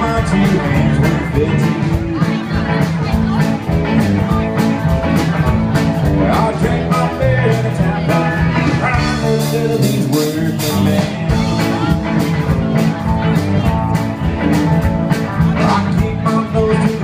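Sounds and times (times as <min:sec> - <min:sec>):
bass line: 0:00.0 - 0:17.0
electric and acoustic guitars: 0:00.0 - 0:17.0
live rock band playing: 0:00.0 - 0:17.0
steady drum beat: 0:00.0 - 0:17.0.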